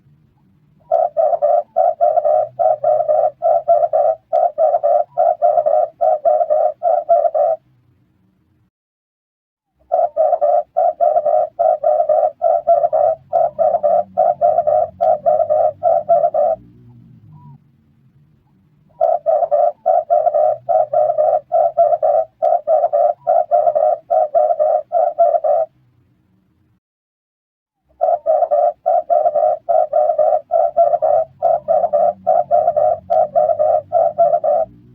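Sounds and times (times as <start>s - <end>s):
dove cooing rapidly: 0.8s - 7.6s, 9.8s - 17.6s, 18.9s - 25.7s, 27.9s - 34.9s.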